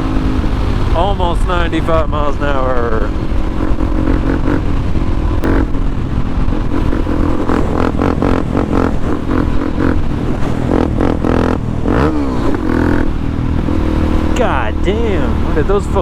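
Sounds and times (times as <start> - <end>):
motorcycle engine running hard: 0.0 - 16.0
wind buffeting microphone: 0.0 - 16.0.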